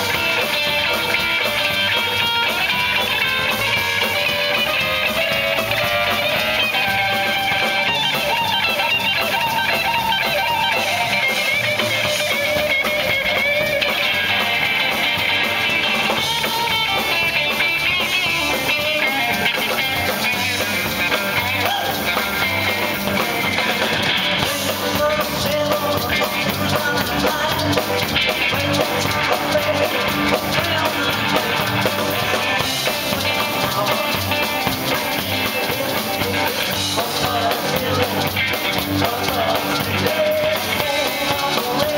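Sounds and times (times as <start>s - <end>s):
drums: 0.0s - 41.9s
electric guitar lead: 0.0s - 41.9s
live rock band playing: 0.0s - 41.9s.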